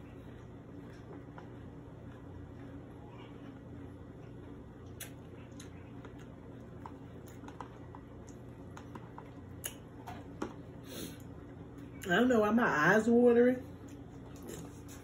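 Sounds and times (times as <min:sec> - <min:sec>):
soft chewing: 0:00.0 - 0:12.1, 0:13.6 - 0:15.0
low steady hum: 0:00.0 - 0:15.0.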